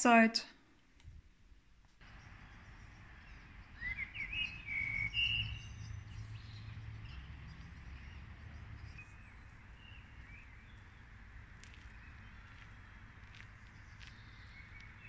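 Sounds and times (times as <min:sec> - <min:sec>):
birds chirping: 0:02.0 - 0:15.0.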